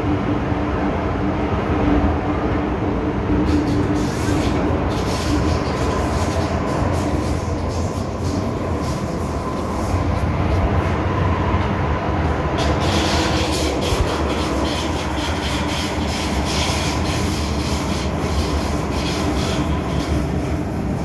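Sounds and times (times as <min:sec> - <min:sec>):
train heavy rumble: 0:00.0 - 0:21.0
wheel-on-rail rubbing noise: 0:03.3 - 0:21.0.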